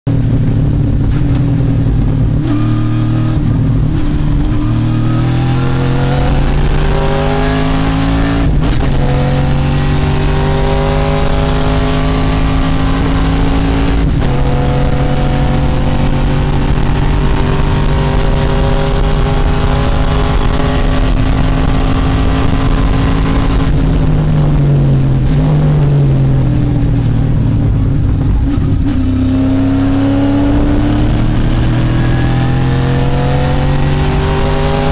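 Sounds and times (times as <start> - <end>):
race car engine at full throttle: 0.0 - 34.9.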